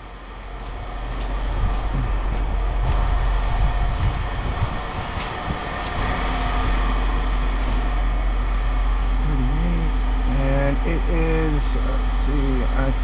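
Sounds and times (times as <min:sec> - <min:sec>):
large machine droning: 0:00.0 - 0:13.0.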